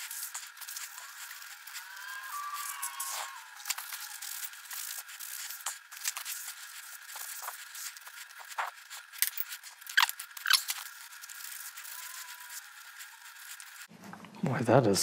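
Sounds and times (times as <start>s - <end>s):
squeaky rubs: 0.0s - 13.9s.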